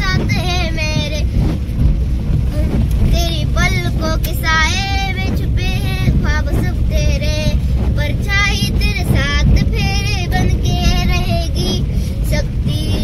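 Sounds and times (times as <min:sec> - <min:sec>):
girl singing: 0:00.0 - 0:01.3, 0:02.5 - 0:13.0
car cabin rumble: 0:00.0 - 0:13.0.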